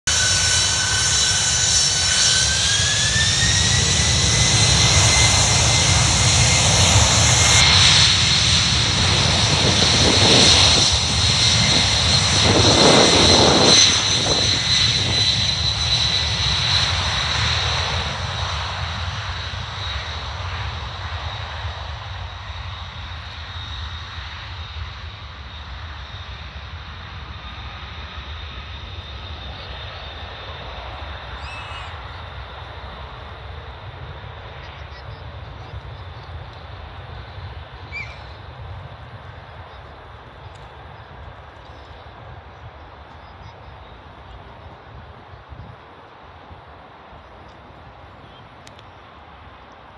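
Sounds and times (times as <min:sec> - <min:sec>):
loud jet takeoff roar: 0:00.0 - 0:49.9
jet engines spooling up: 0:00.1 - 0:43.1.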